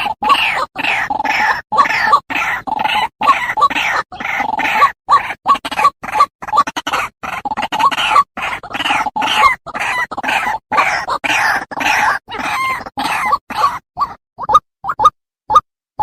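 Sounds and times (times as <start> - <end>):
waterhen harsh croaking calls: 0.0 - 15.6.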